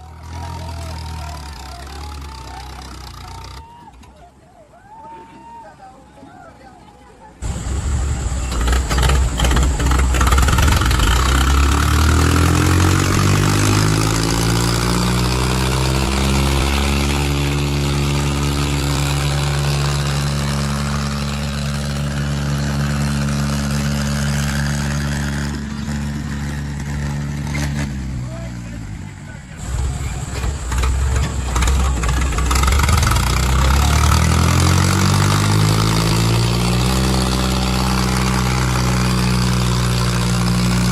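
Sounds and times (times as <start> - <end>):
diesel tractor engines running: 0.0 - 4.6, 7.4 - 40.9.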